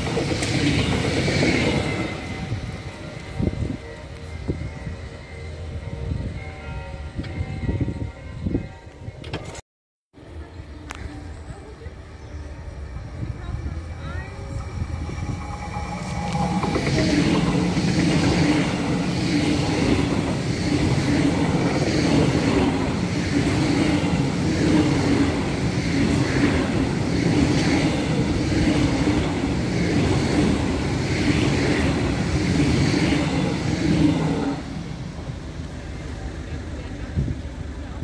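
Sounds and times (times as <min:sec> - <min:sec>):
train passing on rails: 0:00.0 - 0:09.6, 0:10.2 - 0:38.0.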